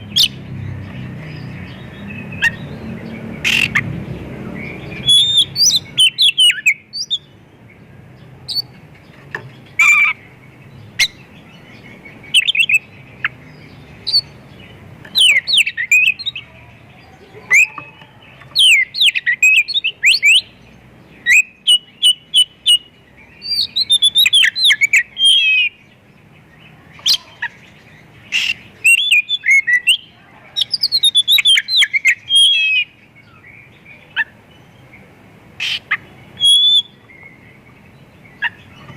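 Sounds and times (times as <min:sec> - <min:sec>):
songbird singing rapid chirps: 0:00.0 - 0:38.9.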